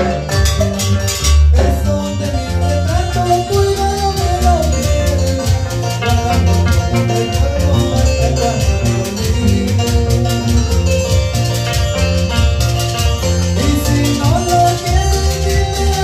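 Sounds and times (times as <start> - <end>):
bass notes: 0.0 - 16.0
latin dance band music: 0.0 - 16.0
plucked harp: 0.0 - 16.0.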